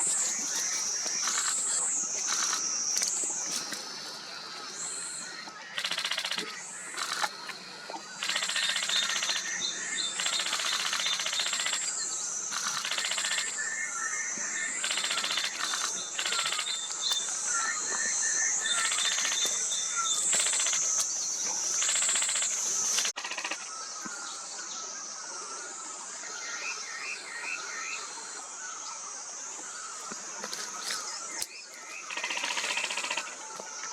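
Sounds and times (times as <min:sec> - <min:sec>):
insects buzzing: 0:00.0 - 0:33.9.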